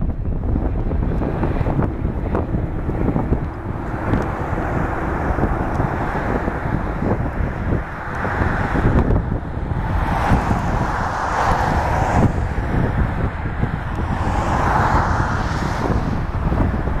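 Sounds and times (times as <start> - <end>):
wind buffeting microphone: 0.0 - 17.0
distant rushing noise: 0.8 - 17.0.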